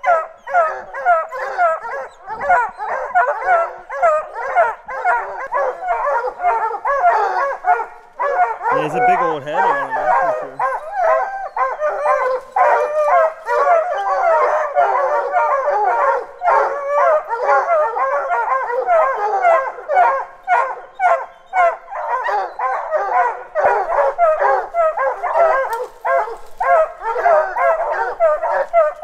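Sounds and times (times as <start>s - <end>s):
hounds baying and barking: 0.0s - 29.0s.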